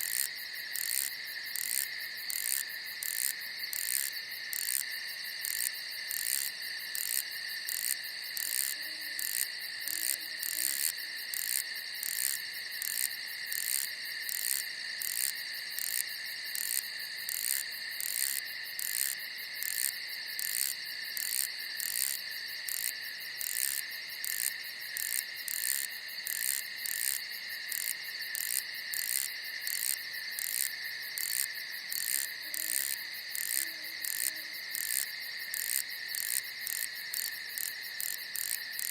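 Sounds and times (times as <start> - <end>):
crickets trilling: 0.0 - 38.9
insect chirping rhythmically: 0.0 - 38.9.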